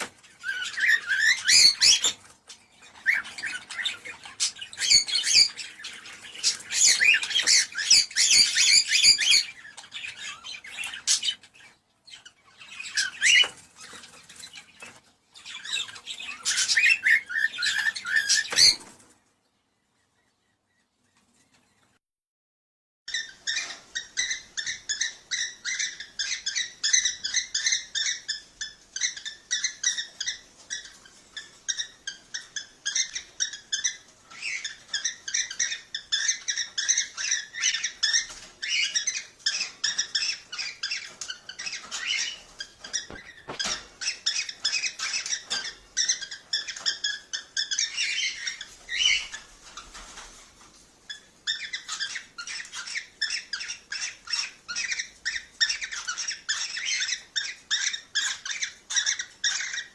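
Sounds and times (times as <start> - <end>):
cockatiels chirping and calling: 0.0 - 19.2, 23.1 - 59.9.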